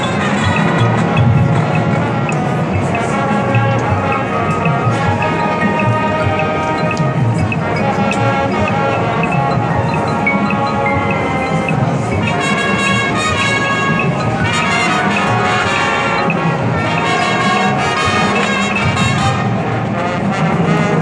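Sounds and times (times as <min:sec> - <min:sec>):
brass chords: 0:00.0 - 0:21.0
marching band playing: 0:00.0 - 0:21.0.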